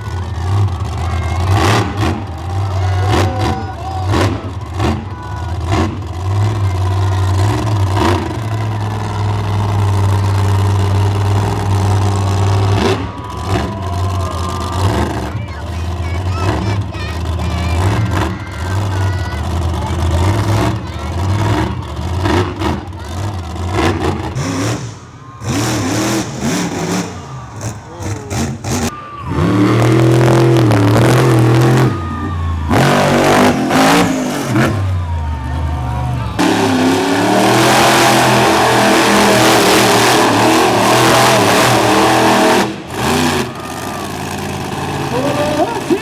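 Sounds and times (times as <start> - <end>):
monster truck engine revving: 0.0 - 46.0.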